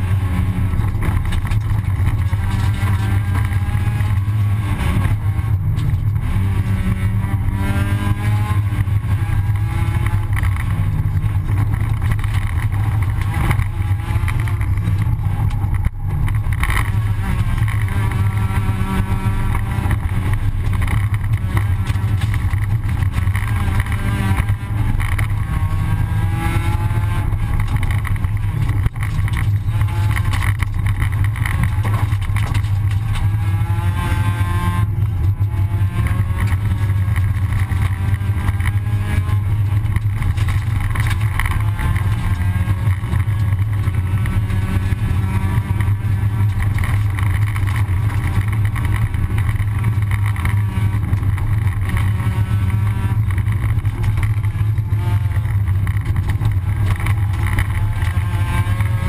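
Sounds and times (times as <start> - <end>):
rally car engine revving: 0.0 - 59.0
tyres rumbling on gravel: 0.0 - 59.0.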